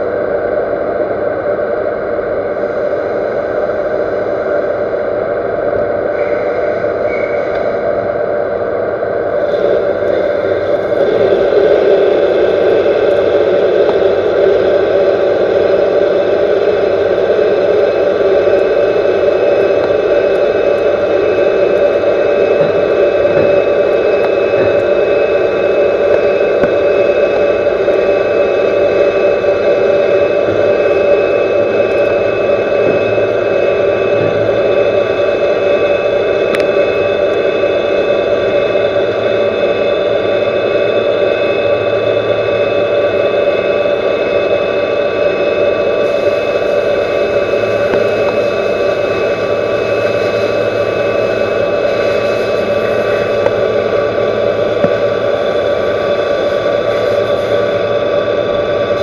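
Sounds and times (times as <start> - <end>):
metal lathe cutting steel: 9.4 - 59.0.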